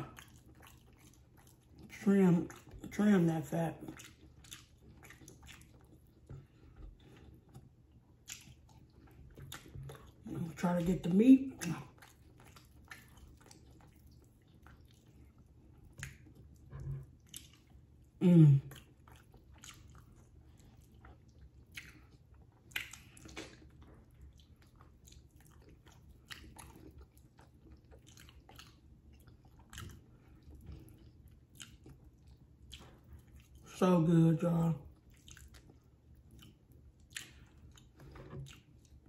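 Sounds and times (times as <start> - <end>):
wet chewing and mouth smacks: 0.0 - 3.0, 3.8 - 10.3, 11.5 - 33.7, 34.8 - 39.0.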